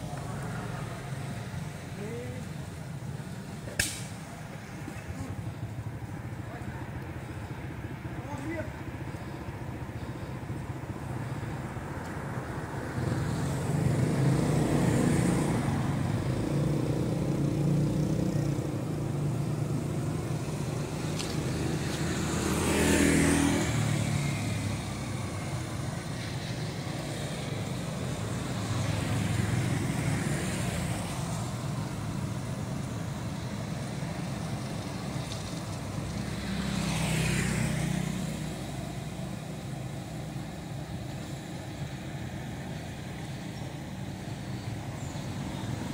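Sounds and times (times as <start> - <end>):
traffic engines running: 0.0 - 45.9
vehicle passing by: 0.0 - 45.9.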